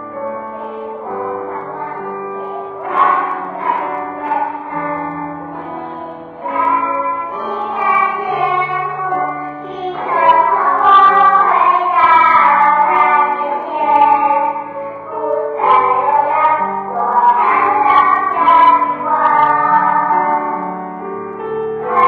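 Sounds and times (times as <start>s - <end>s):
children singing: 0.0s - 21.1s, 21.7s - 22.0s
instrumental accompaniment: 0.0s - 22.0s.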